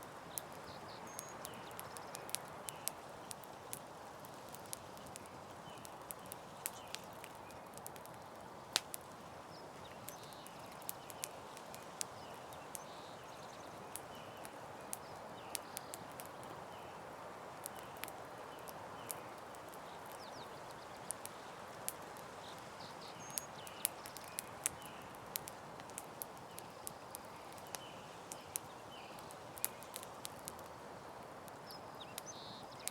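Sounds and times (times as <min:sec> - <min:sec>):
campfire crackling: 0:00.0 - 0:32.9.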